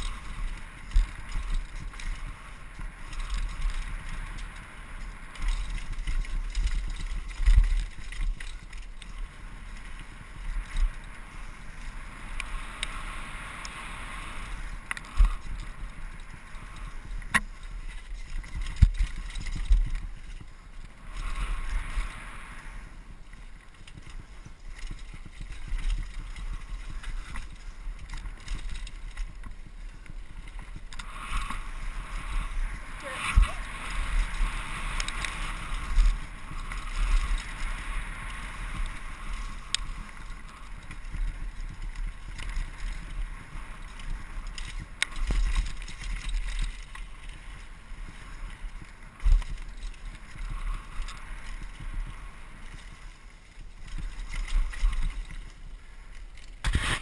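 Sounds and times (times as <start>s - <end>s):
wind buffeting microphone: 0.0s - 55.8s
bike rattling: 0.0s - 57.0s.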